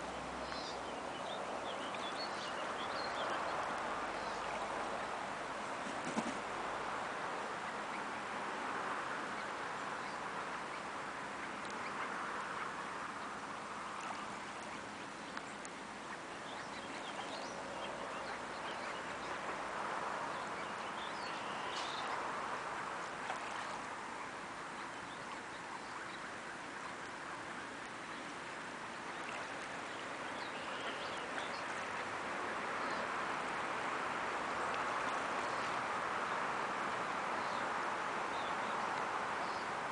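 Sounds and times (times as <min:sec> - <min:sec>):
ducks dabbling in water: 0:00.0 - 0:39.9
small water splashes: 0:00.0 - 0:39.9.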